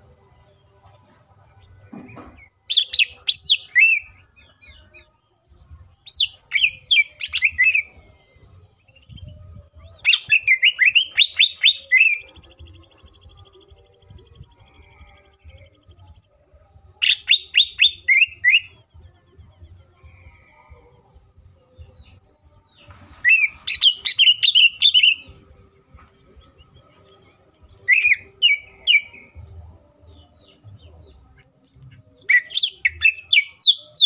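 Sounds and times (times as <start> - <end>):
bird singing whistled notes: 1.4 - 16.2, 17.0 - 21.1, 21.8 - 25.5, 26.4 - 34.0.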